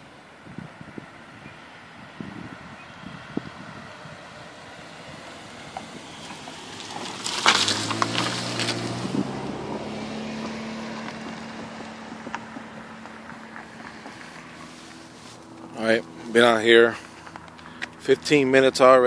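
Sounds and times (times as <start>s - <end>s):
car driving past: 0.7s - 18.2s.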